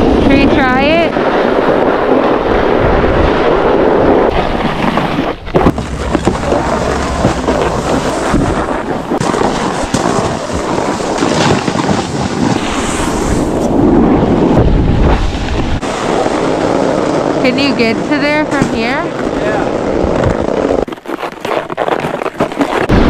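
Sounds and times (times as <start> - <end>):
snowboards sliding over snow: 0.0 - 23.0
wind on microphone: 0.0 - 23.0.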